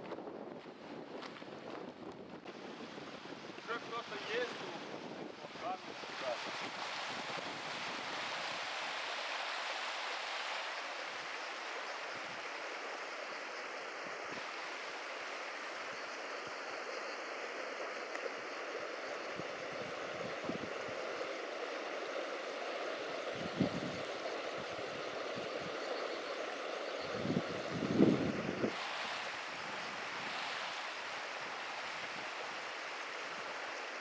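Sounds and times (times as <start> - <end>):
stream rushing over rocks: 2.6 - 34.0.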